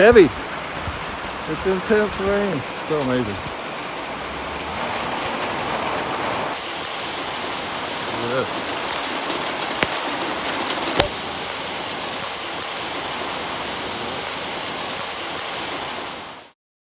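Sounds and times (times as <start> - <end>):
heavy rain falling: 0.0 - 16.6.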